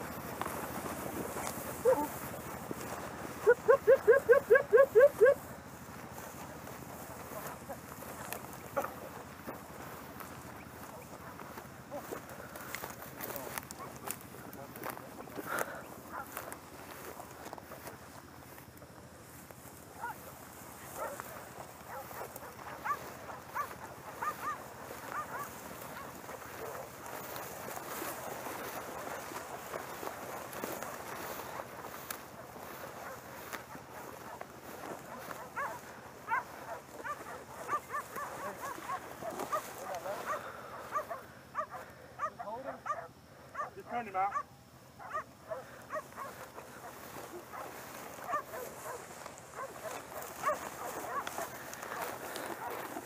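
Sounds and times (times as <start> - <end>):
distant dogs barking: 0.0 - 53.0
footsteps through dry grass: 0.0 - 53.0.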